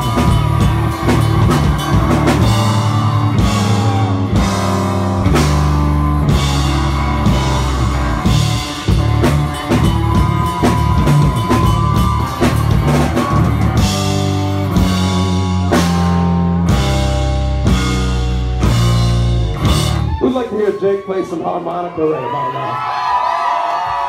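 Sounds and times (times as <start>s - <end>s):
full-band chords struck: 0.0s - 20.1s
drum kit: 0.0s - 20.5s
electric bass: 0.0s - 20.6s.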